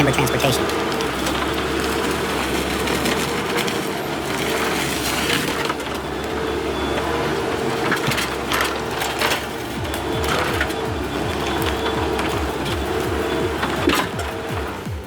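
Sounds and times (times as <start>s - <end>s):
hydraulic machine humming: 0.0s - 15.0s
wood cracking and creaking: 0.0s - 15.0s.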